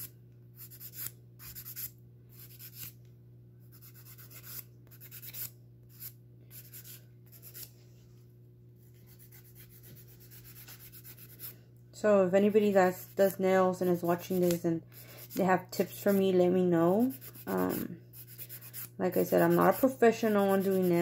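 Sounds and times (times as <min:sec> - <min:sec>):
nail file rasping on fingernails: 0:00.0 - 0:02.9, 0:03.7 - 0:07.7, 0:09.1 - 0:11.5, 0:12.5 - 0:16.2, 0:17.0 - 0:21.0.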